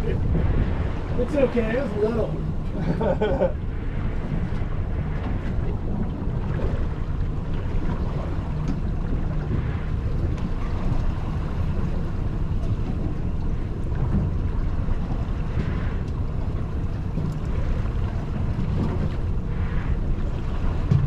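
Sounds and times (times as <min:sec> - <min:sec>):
outboard motor rumbling: 0:00.0 - 0:21.0
water washing against metal hull: 0:00.0 - 0:21.0
wind buffeting microphone: 0:00.0 - 0:21.0.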